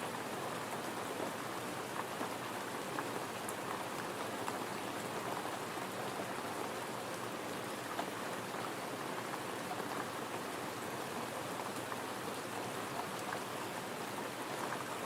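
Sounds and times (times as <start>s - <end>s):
gentle rain: 0.0s - 15.0s.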